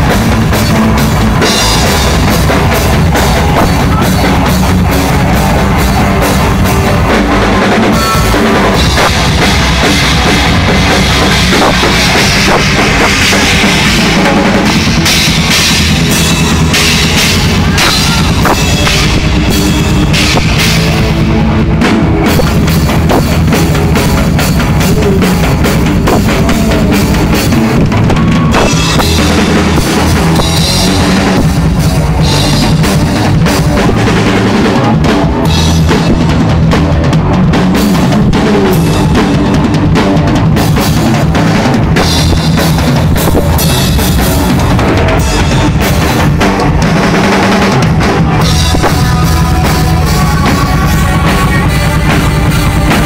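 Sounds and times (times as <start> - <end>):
drum kit solo: 0.0 - 53.0.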